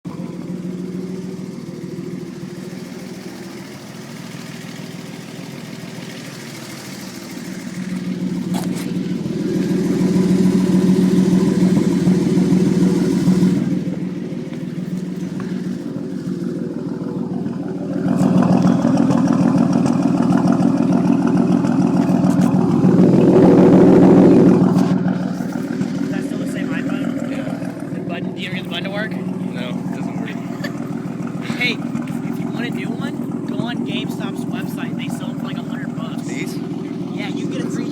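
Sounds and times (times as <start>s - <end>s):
loud car exhaust running: 0.0s - 37.9s.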